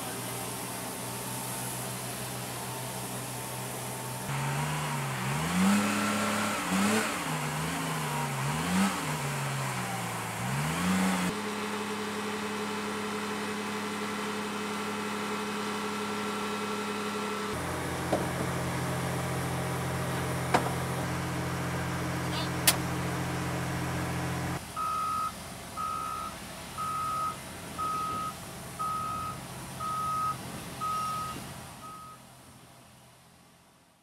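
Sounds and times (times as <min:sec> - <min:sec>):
diesel engine revving: 0:00.0 - 0:32.2.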